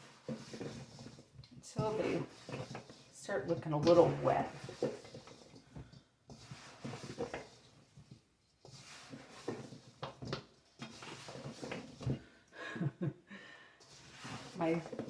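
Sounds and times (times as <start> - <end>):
spoon scraping a mixing bowl: 0.0 - 12.5, 13.8 - 15.0.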